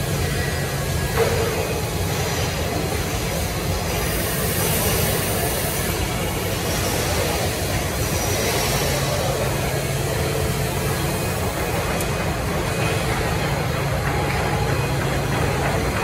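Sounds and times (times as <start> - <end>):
cnc router running: 0.0 - 16.0.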